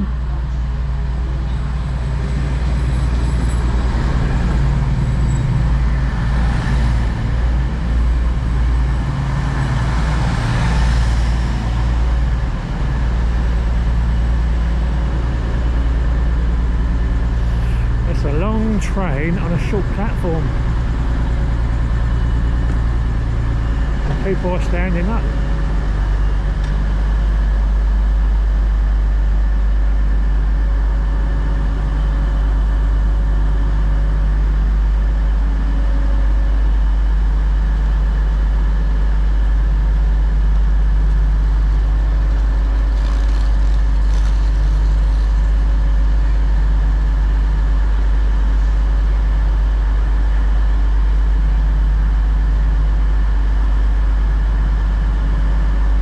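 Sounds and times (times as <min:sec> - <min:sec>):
diesel train engine idling: 0:00.0 - 0:56.0.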